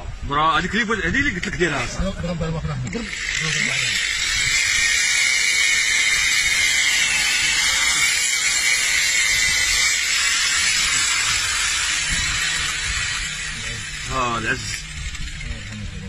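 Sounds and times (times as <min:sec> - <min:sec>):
angle grinder cutting sheet metal: 0:02.8 - 0:16.0.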